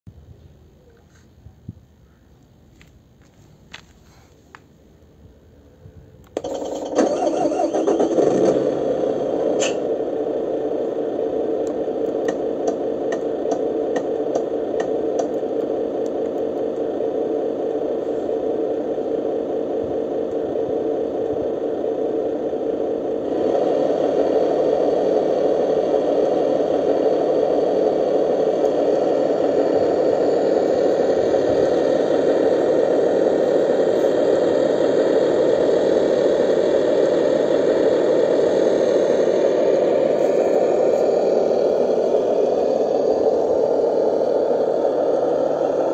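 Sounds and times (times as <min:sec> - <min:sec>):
simulated diesel engine idling: 0:06.4 - 0:45.9.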